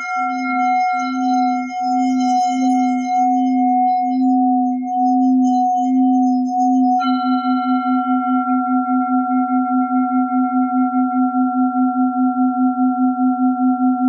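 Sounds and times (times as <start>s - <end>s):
singing bowl humming: 0.0s - 14.0s.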